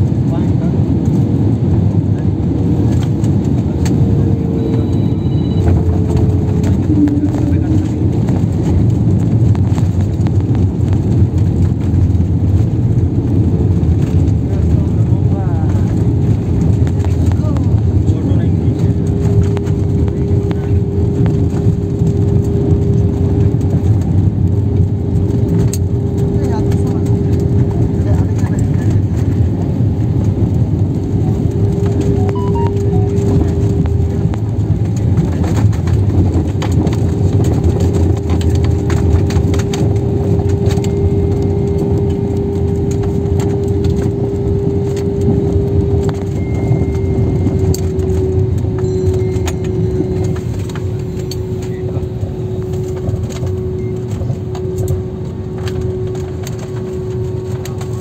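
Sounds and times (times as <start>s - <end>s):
cabin low rumble: 0.0s - 58.0s
jet engines humming: 0.0s - 58.0s.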